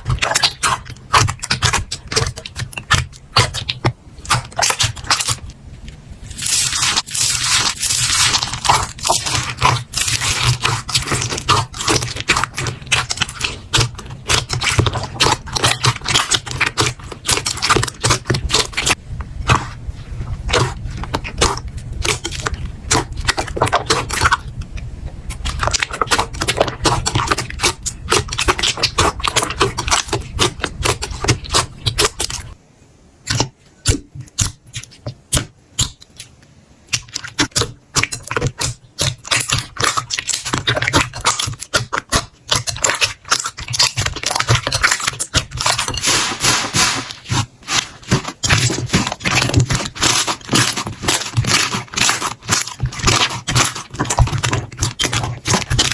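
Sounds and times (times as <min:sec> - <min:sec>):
slime crackling and popping: 0:00.0 - 0:05.5, 0:06.2 - 0:19.8, 0:20.5 - 0:24.6, 0:25.3 - 0:32.6, 0:36.9 - 0:55.9.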